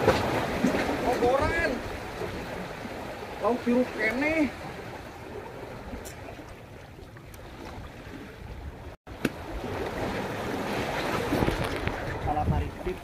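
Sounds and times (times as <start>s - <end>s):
sea water washing against rocks: 0.0s - 13.0s.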